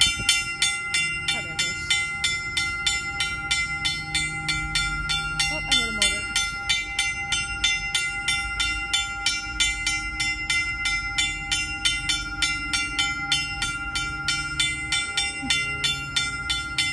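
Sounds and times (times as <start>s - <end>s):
warning bell ringing rapidly: 0.0s - 16.9s.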